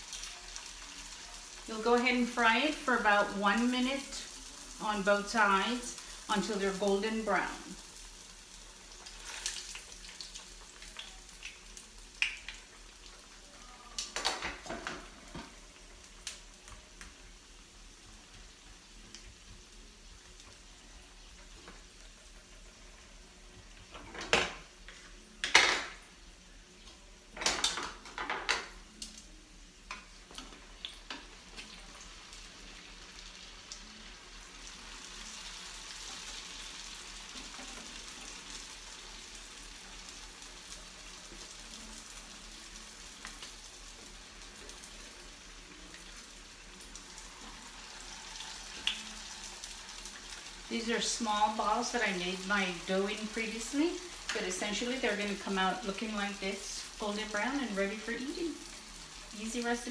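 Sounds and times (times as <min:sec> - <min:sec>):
dough sizzling in hot oil: 0:00.0 - 0:59.9.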